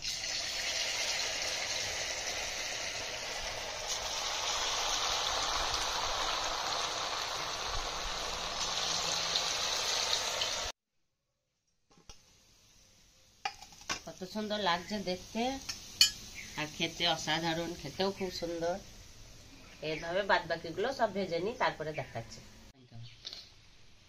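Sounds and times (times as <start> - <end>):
oil sizzling in deep-frying: 0.0 - 10.8, 12.1 - 21.8.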